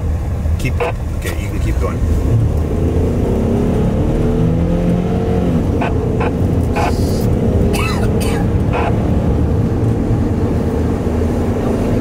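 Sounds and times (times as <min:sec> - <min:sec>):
low road rumble: 0:00.0 - 0:12.0
car engine accelerating: 0:00.4 - 0:12.0.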